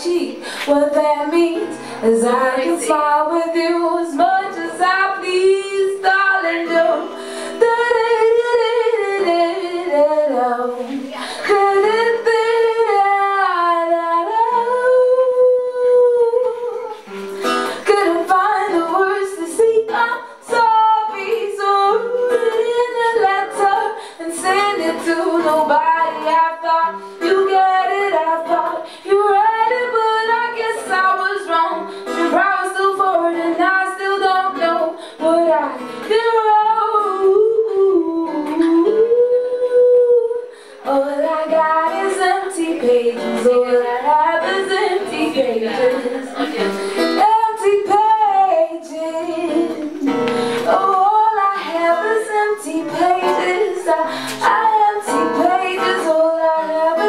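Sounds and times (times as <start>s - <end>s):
acoustic guitar: 0.0s - 57.0s
woman singing: 0.0s - 57.0s.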